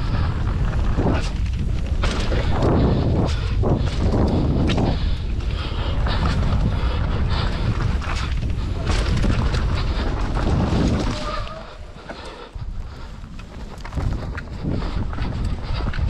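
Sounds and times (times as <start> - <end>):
bike clattering over bumps: 0.0 - 16.0
bike tyres rumbling on dirt: 0.0 - 16.0
wind buffeting microphone: 0.0 - 16.0.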